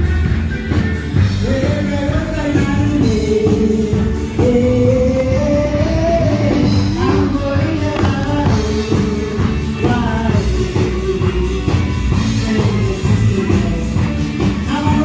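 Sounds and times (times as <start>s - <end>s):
band with guitar: 0.0s - 15.0s
person singing: 1.1s - 15.0s.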